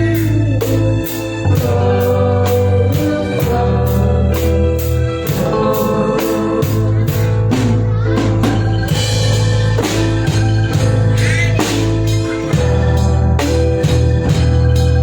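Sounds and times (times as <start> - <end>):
bass line: 0.0 - 15.0
drum kit beat: 0.0 - 15.0
live band playing: 0.0 - 15.0
sustained keyboard or guitar notes: 0.0 - 15.0.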